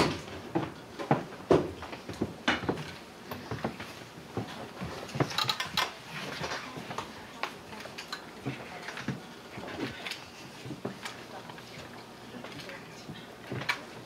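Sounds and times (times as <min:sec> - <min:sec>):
clicks and knocks of handling: 0:00.0 - 0:12.8
footsteps: 0:00.0 - 0:14.0.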